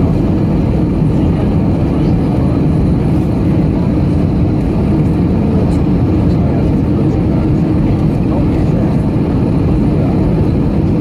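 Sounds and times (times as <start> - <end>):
airliner cabin engine drone: 0.0 - 11.0.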